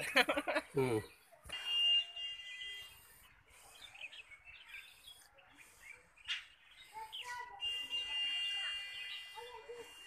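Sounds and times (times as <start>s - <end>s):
outdoor background noise: 0.0s - 10.0s
small birds chirping: 0.2s - 10.0s.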